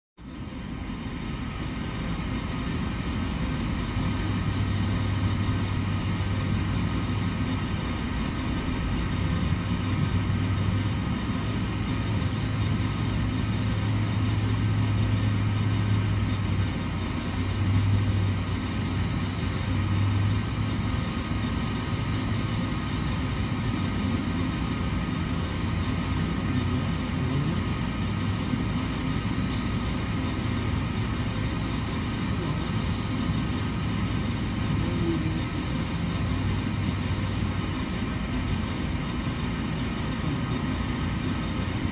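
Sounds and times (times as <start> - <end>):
low hum: 0.2 - 41.9
machinery droning: 0.2 - 41.9.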